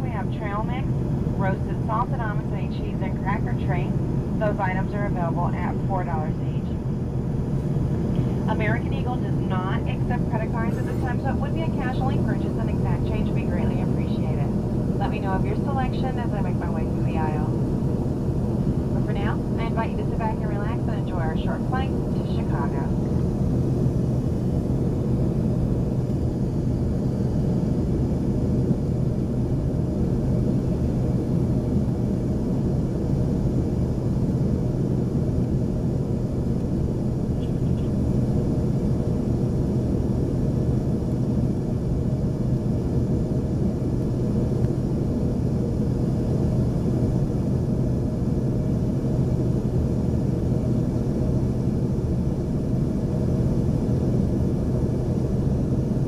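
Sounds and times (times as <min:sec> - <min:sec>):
jet engine cabin drone: 0:00.0 - 0:56.0.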